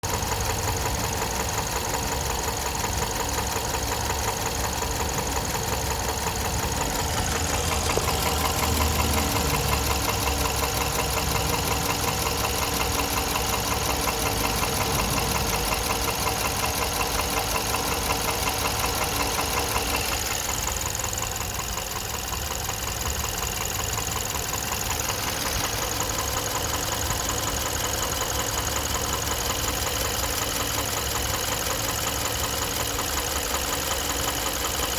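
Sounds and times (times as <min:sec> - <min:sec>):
engine running with knock: 0:00.0 - 0:34.9.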